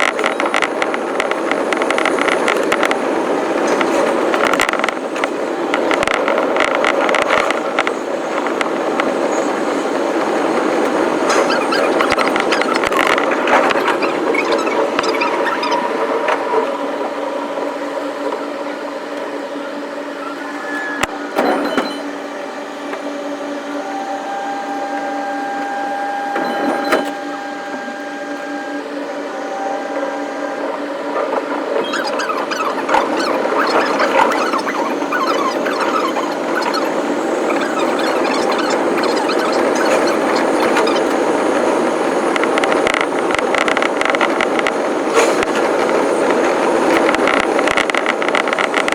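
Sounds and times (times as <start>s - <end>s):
train running on rails: 0.0s - 48.9s.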